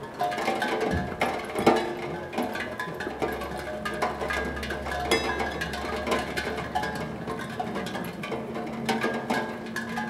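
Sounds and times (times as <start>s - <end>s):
rain patter: 0.0s - 10.0s
raindrops ringing steel tongue drum: 0.0s - 10.0s.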